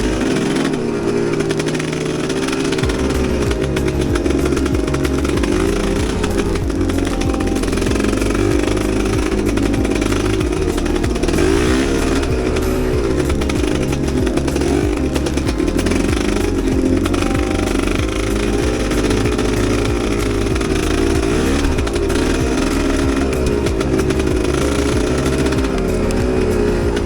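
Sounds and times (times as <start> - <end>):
background music: 0.0 - 27.0
dirt bike engine revving: 0.0 - 27.0.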